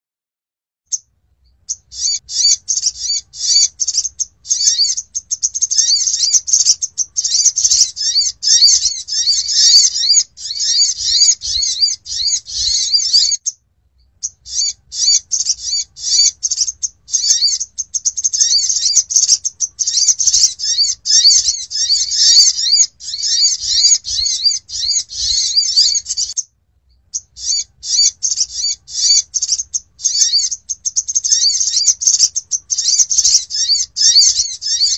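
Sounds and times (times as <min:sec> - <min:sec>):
bird twittering chirps: 0:00.9 - 0:34.9.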